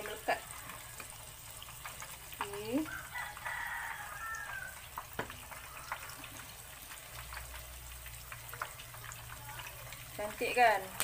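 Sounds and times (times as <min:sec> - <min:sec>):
prawns deep-frying in hot oil: 0:00.0 - 0:11.0.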